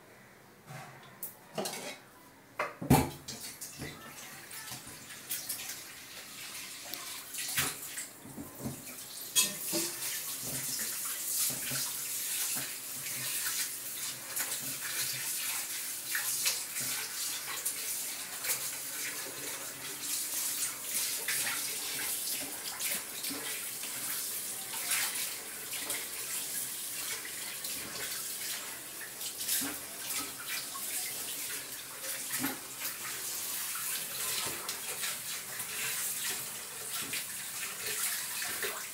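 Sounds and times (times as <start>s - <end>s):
running water splashing: 3.3s - 38.9s.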